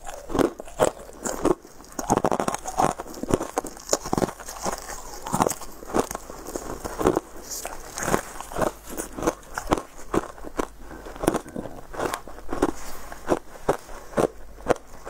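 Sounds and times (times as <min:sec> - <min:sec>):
chewing hard chocolate crunches: 0:00.0 - 0:15.0.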